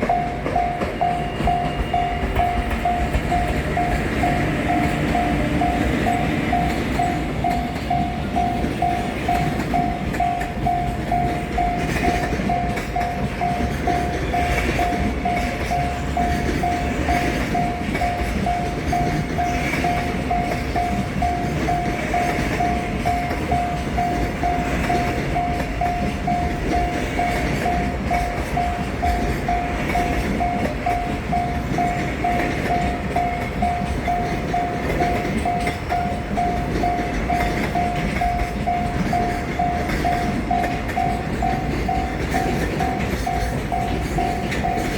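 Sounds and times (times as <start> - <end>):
freight wagons rumbling past: 0.0 - 44.9
level-crossing alarm dinging: 0.0 - 44.9
wheels clattering over rail joints: 0.0 - 44.9.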